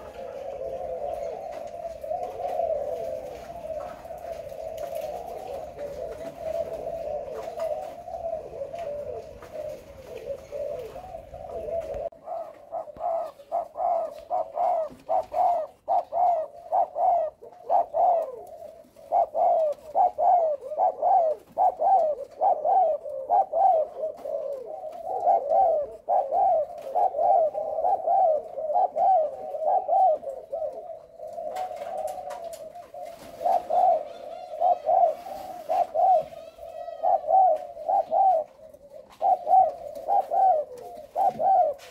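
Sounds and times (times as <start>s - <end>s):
doves cooing: 0.0s - 41.9s.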